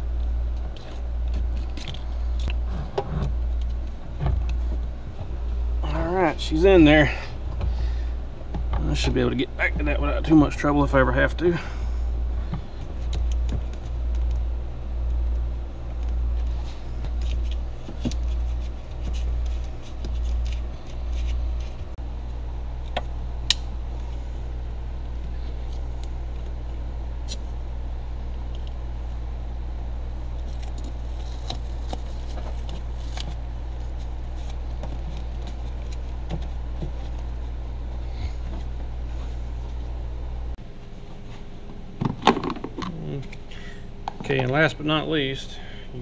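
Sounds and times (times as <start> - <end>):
low pulsing hum: 0.0 - 46.0.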